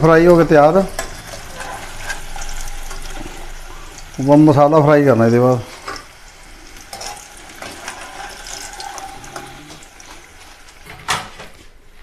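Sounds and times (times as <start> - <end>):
oil sizzling around frying banana: 0.0 - 12.0.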